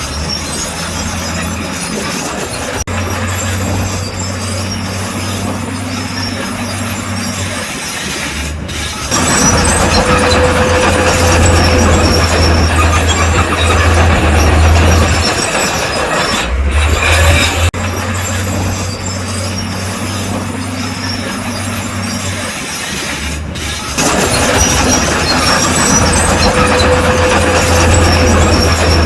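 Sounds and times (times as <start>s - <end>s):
bulldozer diesel engine under load: 0.0s - 29.0s
metallic rattle of crawler tracks: 0.0s - 29.0s.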